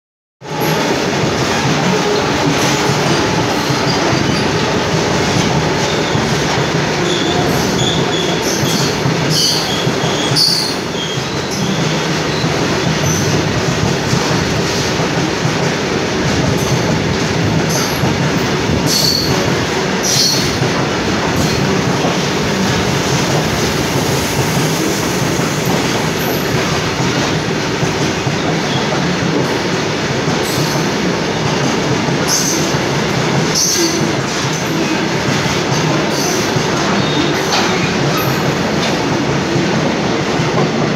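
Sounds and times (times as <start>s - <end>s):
train wheels rumbling on rails: 0.4s - 40.9s.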